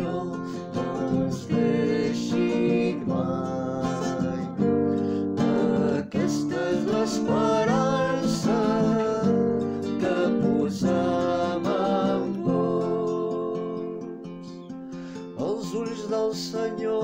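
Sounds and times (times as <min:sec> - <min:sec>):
person singing a hymn: 0:00.0 - 0:14.6, 0:15.4 - 0:17.0
acoustic guitar strumming: 0:00.0 - 0:17.0.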